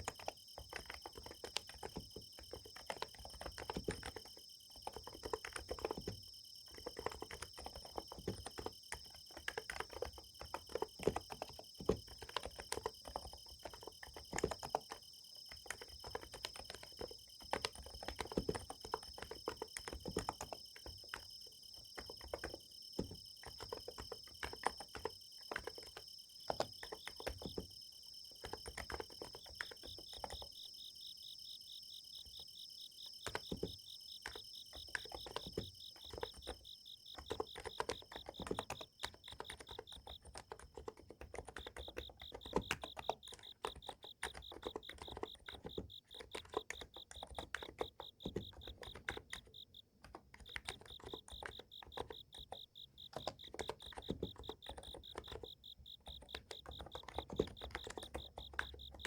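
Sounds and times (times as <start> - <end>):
insects trilling: 0.0 - 59.0
typing on keyboard: 0.0 - 59.0.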